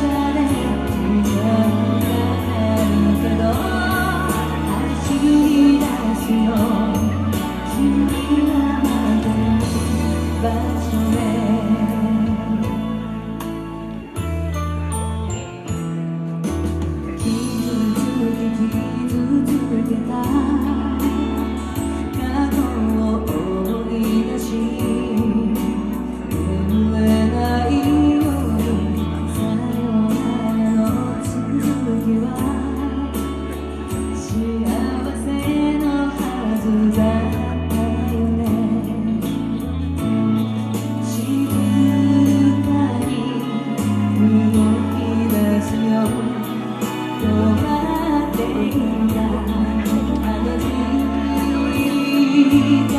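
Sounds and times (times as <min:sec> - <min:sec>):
woman singing: 0:00.0 - 0:14.2, 0:17.0 - 0:52.9
band accompaniment: 0:00.0 - 0:52.9
bass notes: 0:00.0 - 0:52.9.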